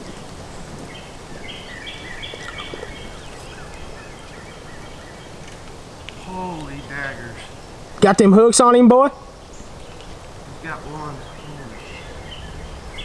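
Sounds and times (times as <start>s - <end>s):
wind noise on microphone: 0.0s - 8.0s, 9.1s - 13.0s.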